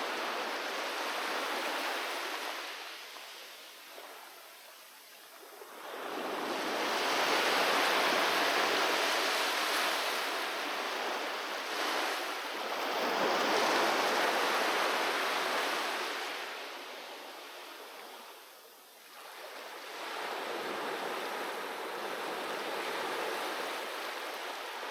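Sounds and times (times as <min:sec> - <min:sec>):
sea waves surging onto shore: 0:00.0 - 0:04.4, 0:05.4 - 0:18.5, 0:19.1 - 0:24.9.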